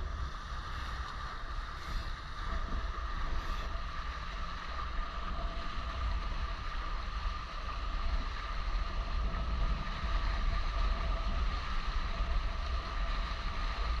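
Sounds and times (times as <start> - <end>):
water rushing along hulls: 0.0 - 14.0
wind buffeting microphone: 0.0 - 14.0.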